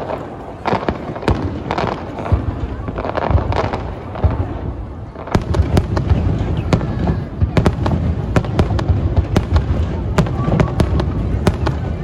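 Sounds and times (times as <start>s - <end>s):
firework bangs and crackles: 0.0s - 12.0s.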